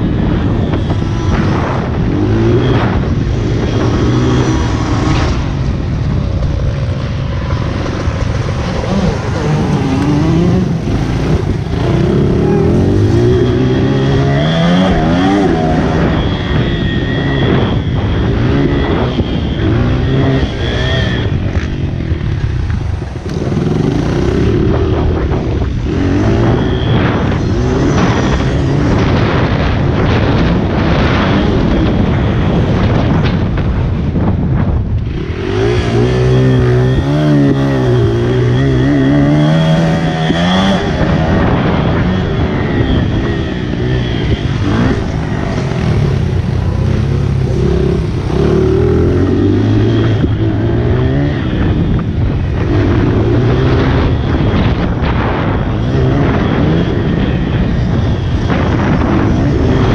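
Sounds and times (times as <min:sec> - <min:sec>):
motorbike engine revving: 0:00.0 - 0:33.4, 0:35.0 - 0:59.9.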